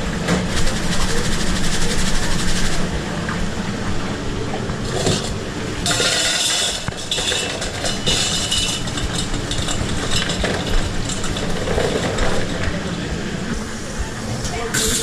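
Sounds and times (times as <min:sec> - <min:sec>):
mechanical running hum: 0:00.0 - 0:15.0.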